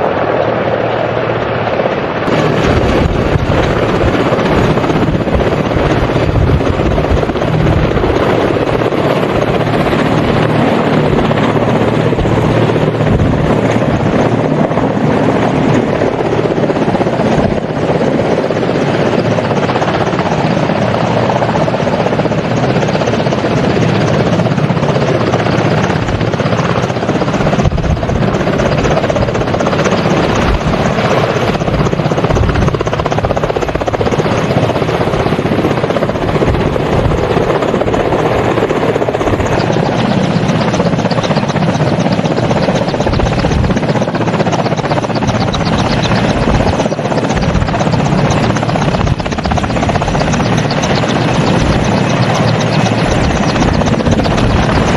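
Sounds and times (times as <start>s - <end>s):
helicopter running: 0.0s - 54.9s.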